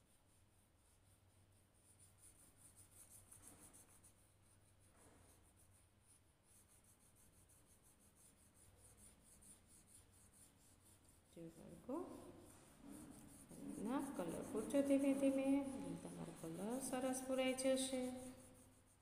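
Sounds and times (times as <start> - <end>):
crayon scratching on paper: 0.0 - 19.0.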